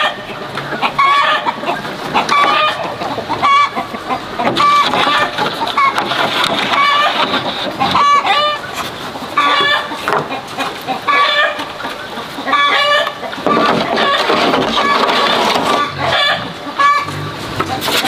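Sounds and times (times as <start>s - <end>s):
poultry calling: 0.0s - 18.0s.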